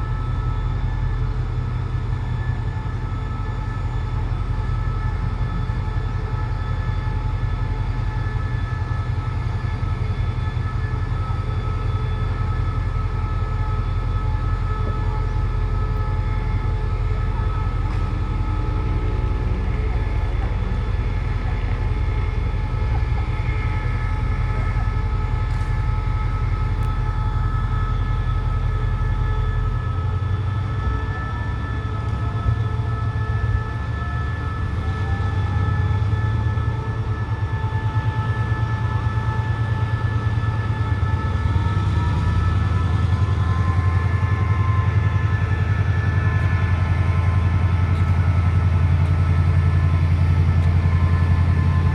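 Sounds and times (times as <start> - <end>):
locomotive engine rumble: 0.0 - 51.9
whining tones: 3.1 - 51.9.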